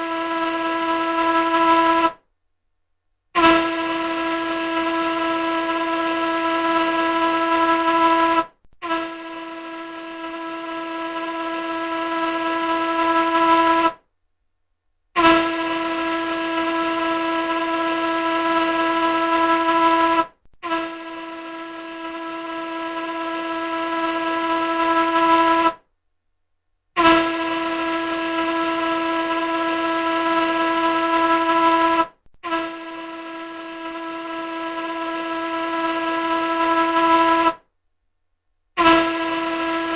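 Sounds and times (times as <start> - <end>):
ship's horn blasts: 0.0 - 2.2, 3.4 - 14.0, 15.2 - 25.8, 27.0 - 37.7, 38.8 - 39.9.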